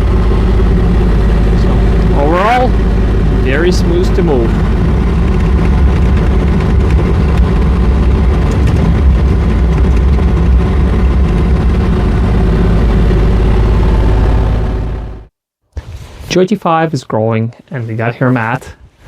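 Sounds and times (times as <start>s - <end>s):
excavator engine running: 0.0s - 15.3s.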